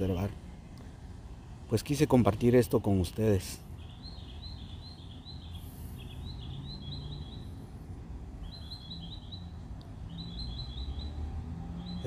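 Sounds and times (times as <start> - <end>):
bird singing: 1.8 - 12.0.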